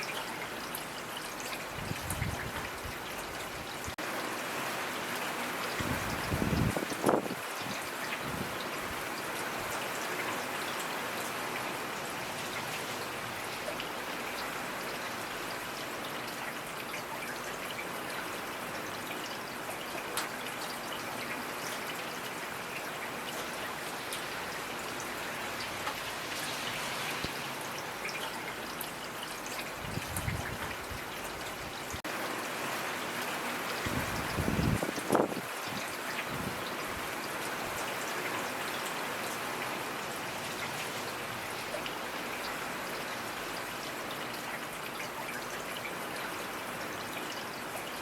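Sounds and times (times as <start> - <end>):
raindrops ticking on surfaces: 0.0 - 48.0
steady rainfall: 0.0 - 48.0.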